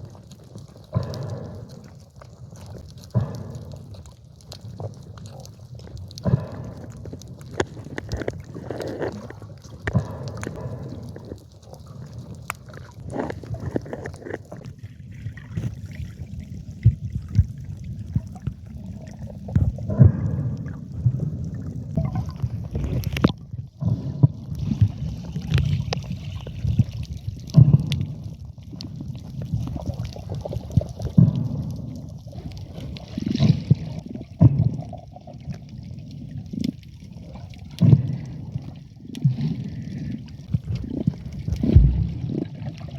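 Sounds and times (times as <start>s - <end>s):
sea water sloshing and gurgling: 0.0s - 42.9s.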